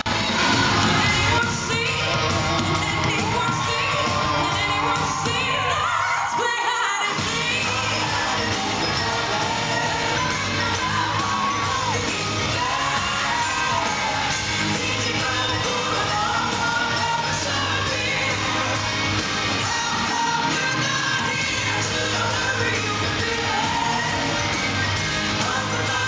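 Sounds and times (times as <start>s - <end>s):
live pop-rock band: 0.0s - 26.0s
woman singing lead vocal: 0.4s - 26.0s.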